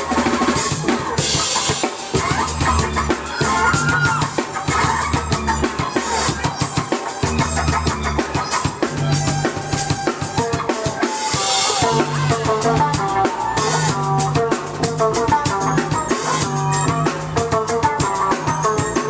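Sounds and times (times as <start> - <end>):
bass line: 0.0 - 19.0
drum kit beat: 0.0 - 19.0
electric violin: 0.0 - 19.0
keyboard playing: 0.0 - 19.0.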